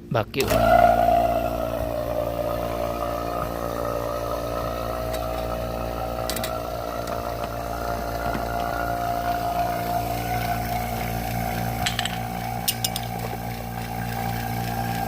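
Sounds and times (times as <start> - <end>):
vacuum pump motor drone: 0.0 - 15.0.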